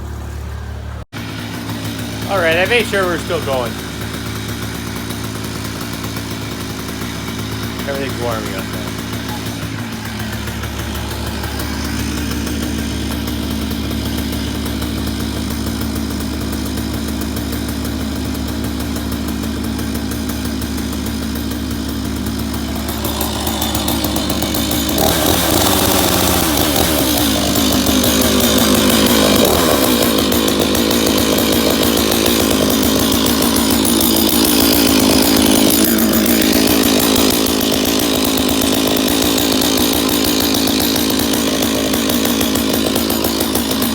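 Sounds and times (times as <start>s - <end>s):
chainsaw running: 0.0s - 43.9s.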